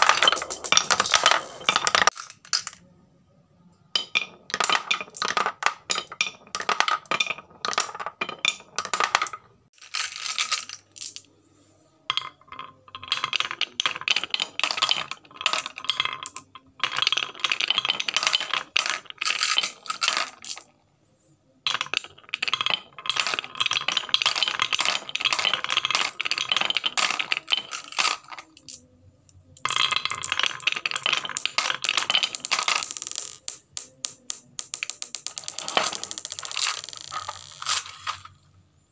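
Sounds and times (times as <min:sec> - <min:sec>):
marbles clattering on wood and plastic: 0:00.0 - 0:02.9, 0:04.0 - 0:20.8, 0:21.5 - 0:38.5.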